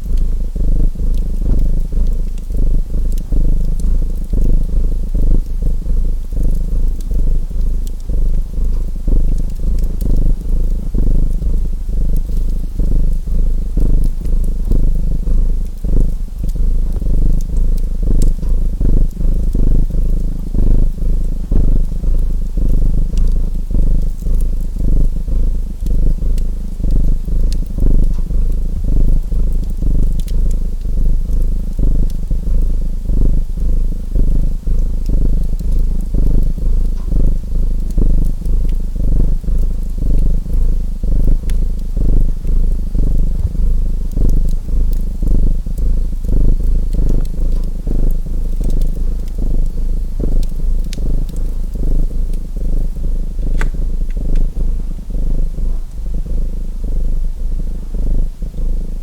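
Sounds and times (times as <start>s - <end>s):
wood fire crackling: 0.0s - 57.2s
cat purring: 0.0s - 59.0s.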